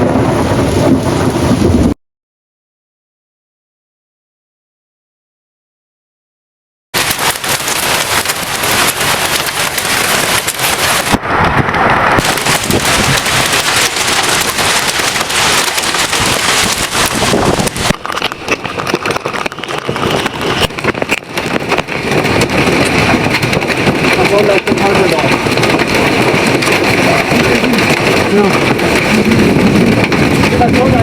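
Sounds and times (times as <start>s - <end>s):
heavy rain pelting down: 0.0s - 2.0s, 7.0s - 31.0s.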